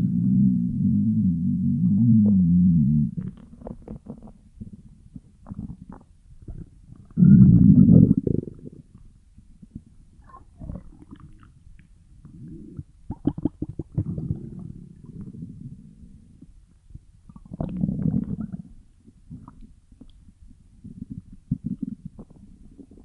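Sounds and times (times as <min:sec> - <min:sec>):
stomach growling: 0:00.0 - 0:16.6, 0:17.3 - 0:23.0.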